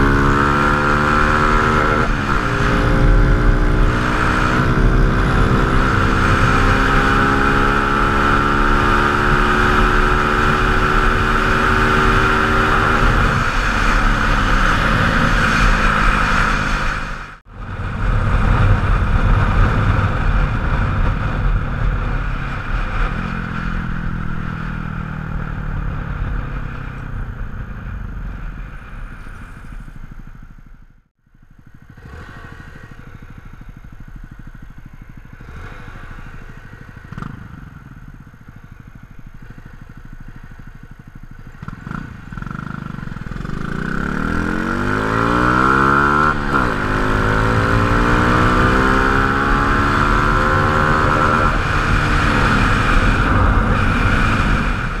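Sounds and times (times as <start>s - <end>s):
motorcycle engines: 0.0s - 55.0s.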